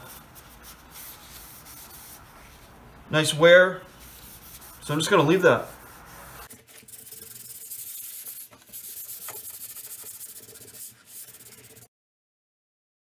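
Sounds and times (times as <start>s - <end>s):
sandpaper rubbing on wood: 0.0s - 2.7s, 4.0s - 11.9s.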